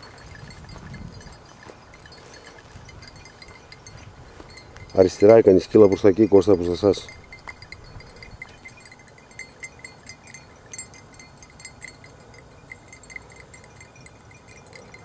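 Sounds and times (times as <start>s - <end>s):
dog collar bell jingling: 0.0s - 15.0s.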